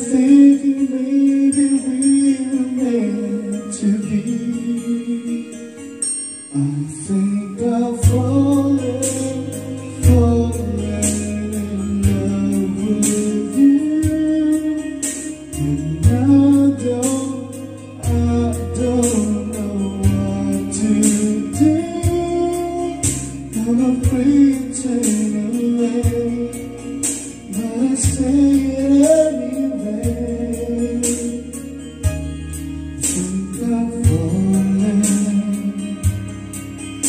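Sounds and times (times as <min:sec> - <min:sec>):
karaoke backing track: 0:00.0 - 0:37.0
person singing melody: 0:00.0 - 0:37.0.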